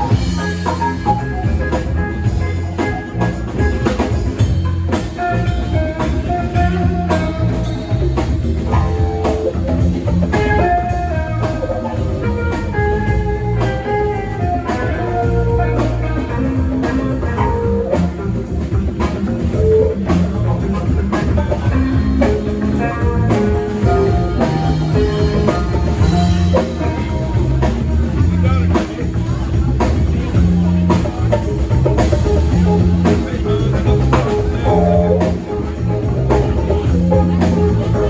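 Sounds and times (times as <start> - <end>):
drum kit steady beat: 0.0 - 38.0
guitar melody: 0.0 - 38.0.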